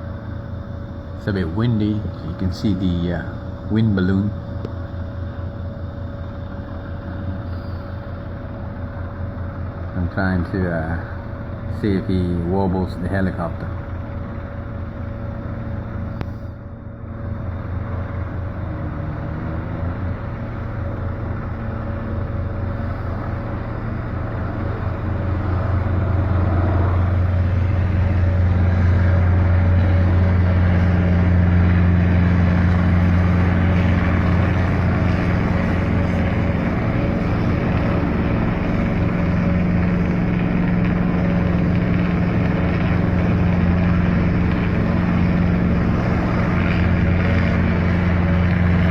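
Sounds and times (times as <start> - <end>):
helicopter rotor beating: 0.0 - 48.9.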